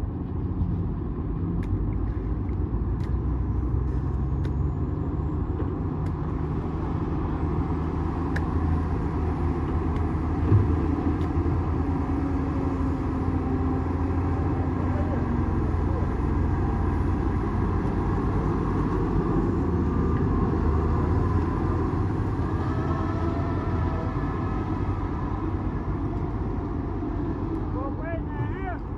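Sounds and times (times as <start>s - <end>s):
bulldozer diesel engine running: 0.0s - 28.9s.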